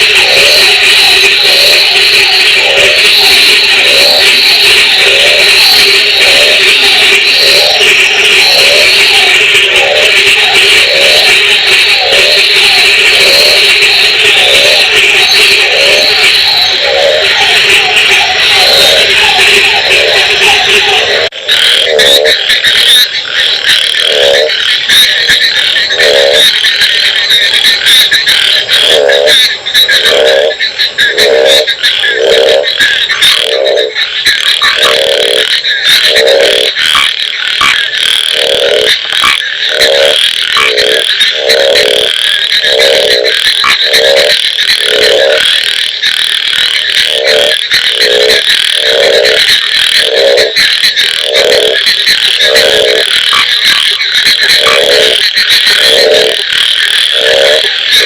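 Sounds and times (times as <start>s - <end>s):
frog croaking: 0.0s - 58.0s
high-pitched chorus: 0.0s - 58.0s.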